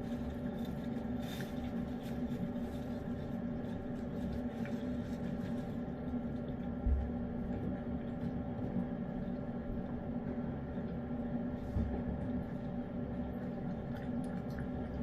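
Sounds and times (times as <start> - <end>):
low hum with fixed tones: 0.0 - 15.0.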